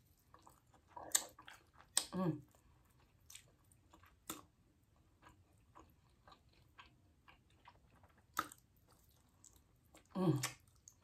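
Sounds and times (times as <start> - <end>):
chewing with mouth clicks: 0.0 - 11.0.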